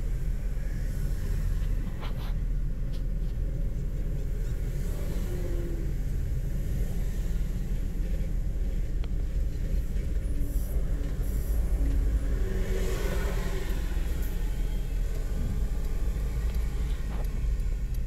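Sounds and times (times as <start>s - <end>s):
car road noise from inside: 0.0s - 18.0s.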